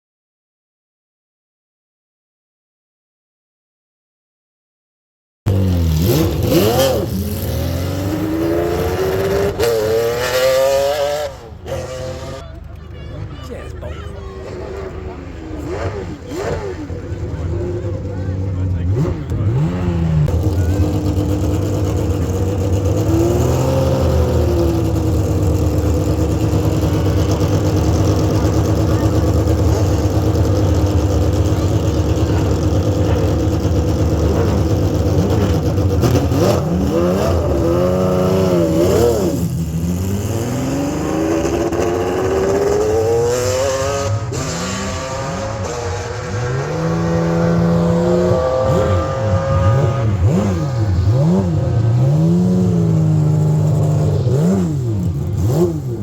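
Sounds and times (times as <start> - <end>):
car engine revving: 5.5 - 56.0.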